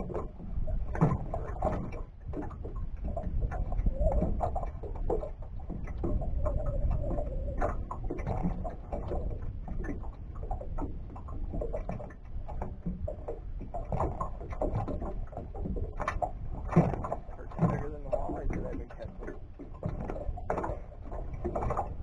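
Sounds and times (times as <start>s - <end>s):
light clicks and knocks: 0.0s - 22.0s
water lapping against boat hull: 0.0s - 22.0s
wind rumbling on microphone: 0.0s - 22.0s.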